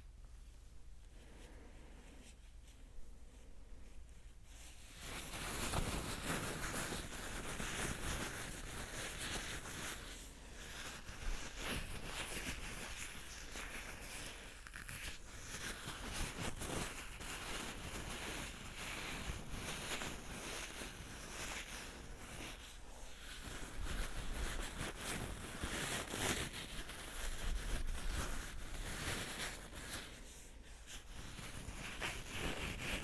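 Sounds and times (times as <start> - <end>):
scratching and rustling on microphone: 0.0 - 33.0.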